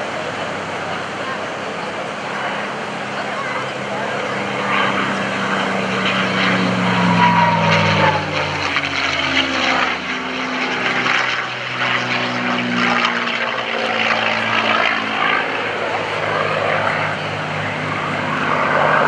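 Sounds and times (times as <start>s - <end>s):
propeller plane flying past: 0.0s - 19.0s.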